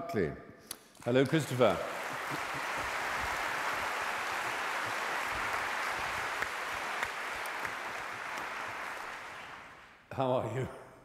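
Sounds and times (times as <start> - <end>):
audience applauding: 1.0 - 10.0.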